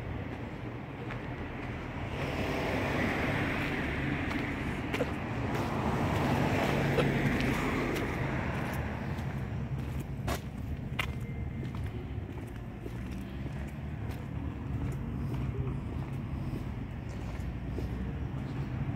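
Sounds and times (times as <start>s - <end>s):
vehicle passing: 0.0s - 18.9s.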